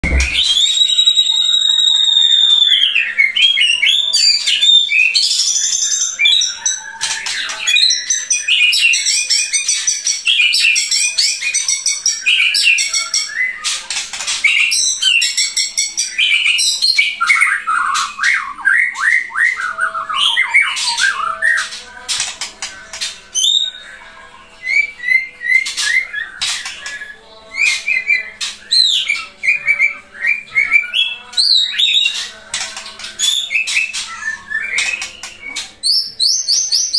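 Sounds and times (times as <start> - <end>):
bird singing trills and whistles: 0.0 - 36.9.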